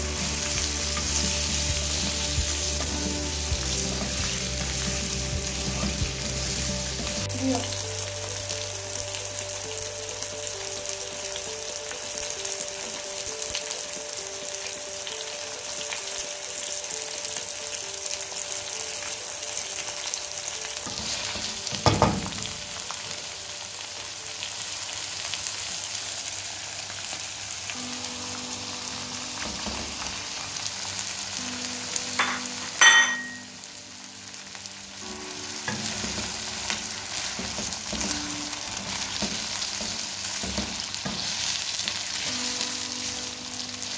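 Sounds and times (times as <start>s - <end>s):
chicken sizzling in oil: 0.0s - 43.9s.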